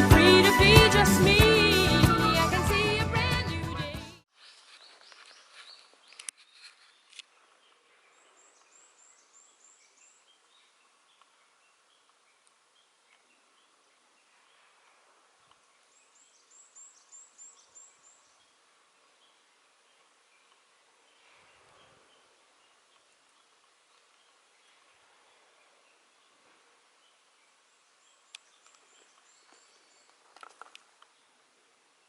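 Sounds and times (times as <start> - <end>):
soft bird chirps: 4.4 - 32.0.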